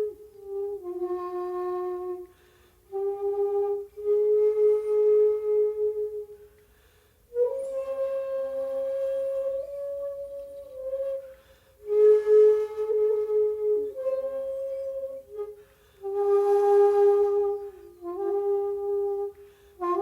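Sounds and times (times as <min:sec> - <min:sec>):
bamboo flute long notes: 0:00.0 - 0:20.0.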